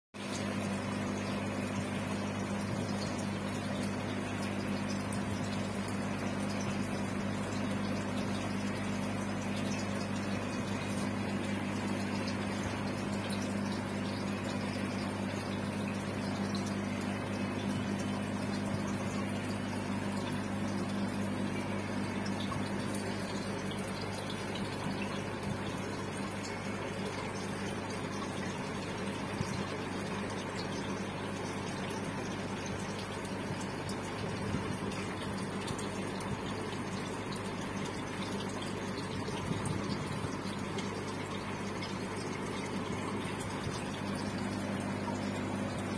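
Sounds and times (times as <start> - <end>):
aquarium air pump humming: 0.2 - 45.9.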